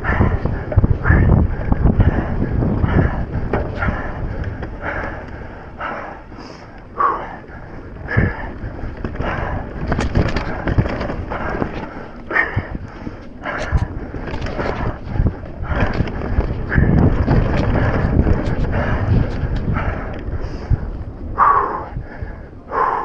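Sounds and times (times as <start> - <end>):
person breathing hard: 0.0 - 23.0
trail and wind rumble: 0.0 - 23.0.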